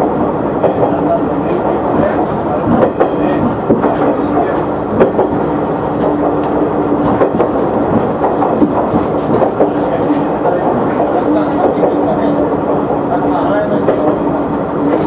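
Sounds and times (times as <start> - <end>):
railcar engine hum: 0.0 - 15.0.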